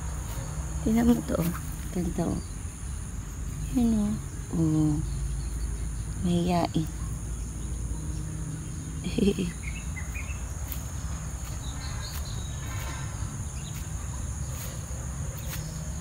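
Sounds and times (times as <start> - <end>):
insect chorus shrilling: 0.0 - 16.0
low outdoor rumble: 0.0 - 16.0.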